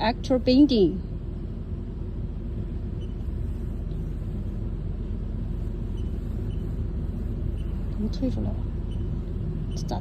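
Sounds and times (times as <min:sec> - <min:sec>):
machine motor humming idle: 0:01.1 - 0:10.0.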